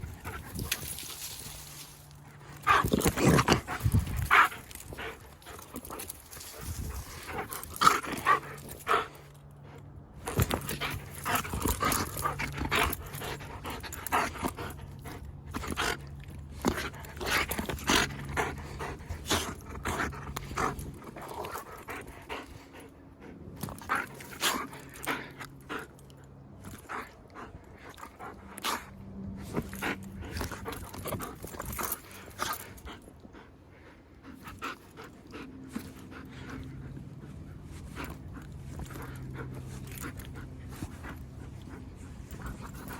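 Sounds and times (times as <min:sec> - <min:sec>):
dog panting: 0:02.2 - 0:42.9.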